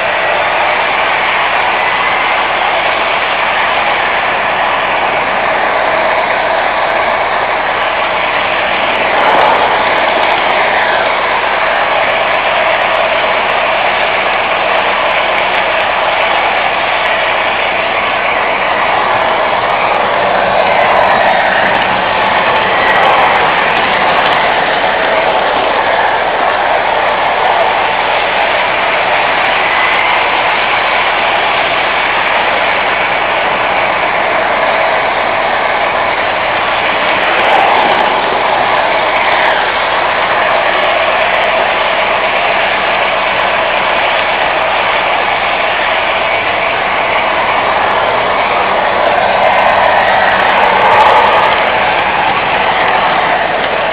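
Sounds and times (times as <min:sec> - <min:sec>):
model train rolling rattle: 0:00.0 - 0:53.9.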